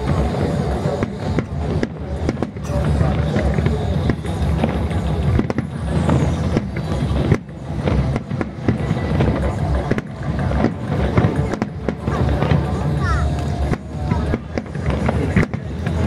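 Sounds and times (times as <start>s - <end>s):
fireworks shells bursting: 0.0s - 16.0s
steady low rumble: 0.0s - 16.0s.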